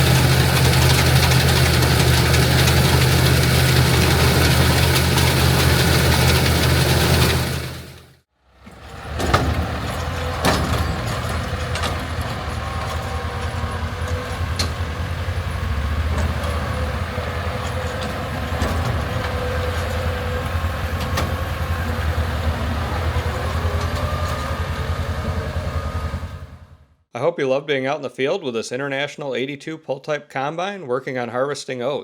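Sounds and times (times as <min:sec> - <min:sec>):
tractor and combine running: 0:00.0 - 0:26.9.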